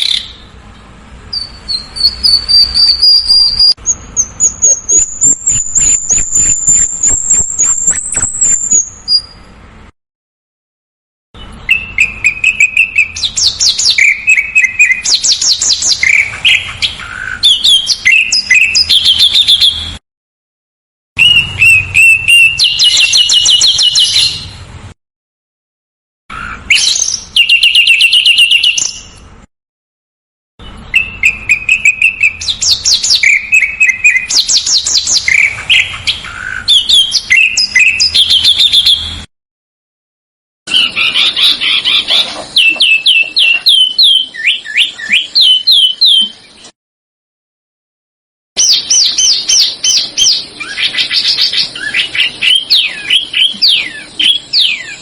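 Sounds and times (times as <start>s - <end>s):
songbird trills and chirps: 0.0s - 9.5s, 11.4s - 20.0s, 21.2s - 24.6s, 26.3s - 29.3s, 30.6s - 39.2s, 40.7s - 46.7s, 48.6s - 55.0s.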